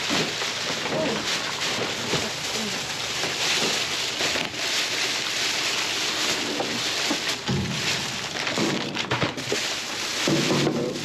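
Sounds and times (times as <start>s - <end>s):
plastic trash bag rustling: 0.0s - 11.0s
rain on metal dumpster: 0.0s - 11.0s.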